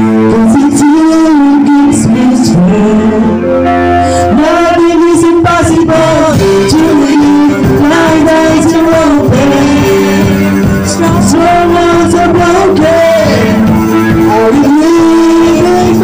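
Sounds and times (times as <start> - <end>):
drums: 0.0 - 2.9, 4.3 - 16.0
bass guitar: 0.0 - 16.0
electric guitars: 0.0 - 16.0
man singing into microphone: 0.0 - 16.0.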